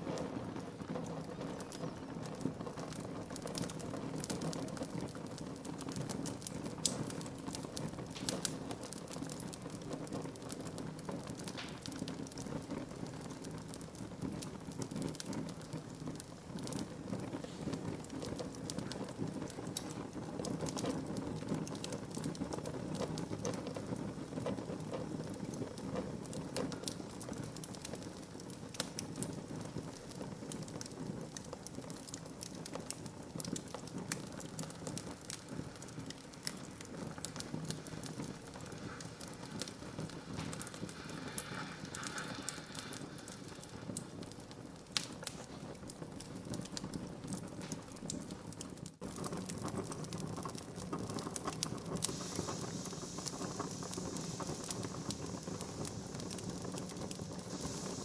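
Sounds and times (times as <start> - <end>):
burning wood crackling and popping: 0.0 - 58.0
flames rushing: 0.0 - 58.0.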